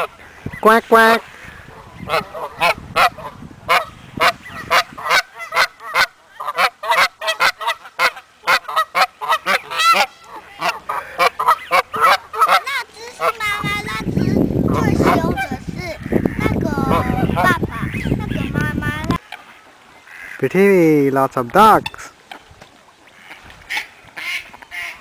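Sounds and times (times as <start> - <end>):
geese honking: 0.0 - 13.7, 14.7 - 20.4, 23.0 - 25.0.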